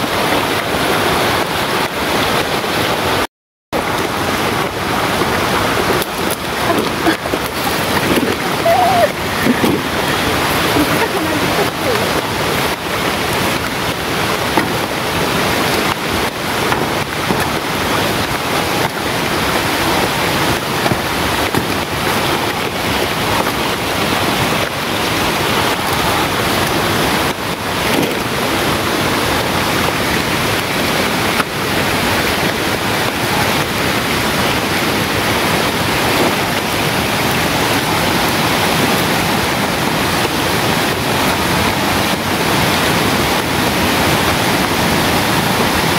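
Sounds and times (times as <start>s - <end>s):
leaves rustling: 3.8s - 45.9s.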